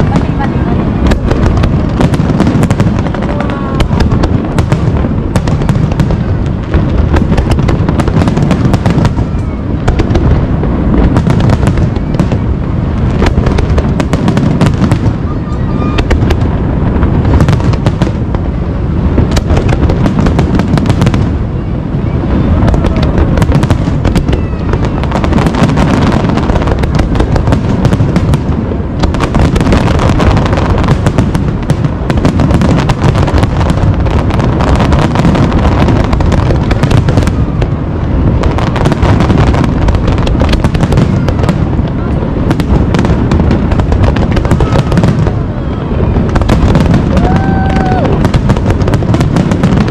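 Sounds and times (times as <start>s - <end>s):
fireworks bursting and crackling: 0.0s - 49.9s.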